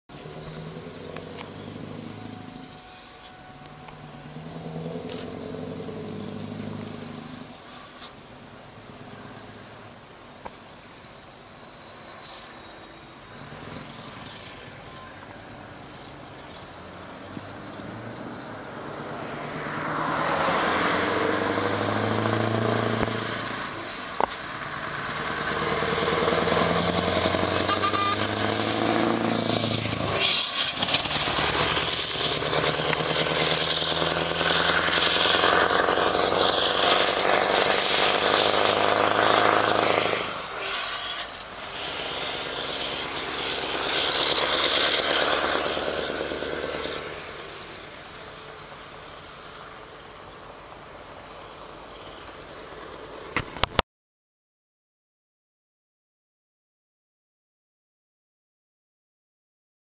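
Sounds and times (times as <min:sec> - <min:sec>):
truck diesel engine pulling hard: 0:00.1 - 0:10.5, 0:11.6 - 0:53.6
gear changes: 0:00.1 - 0:10.6, 0:11.7 - 0:50.4.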